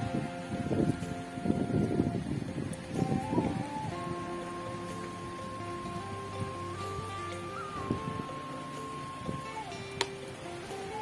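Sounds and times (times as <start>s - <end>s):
synth music with pulsing beat: 0.0s - 11.0s.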